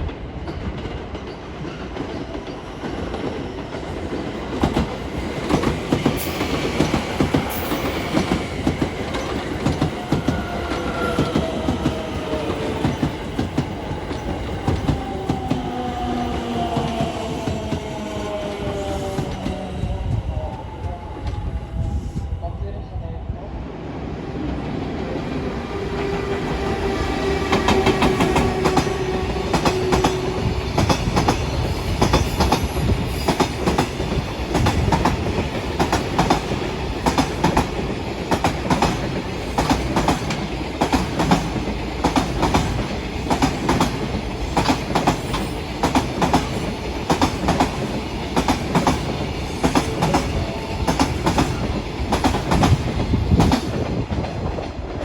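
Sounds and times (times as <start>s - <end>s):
train wheels clicking over rail joints: 0.1s - 19.7s, 25.7s - 54.8s.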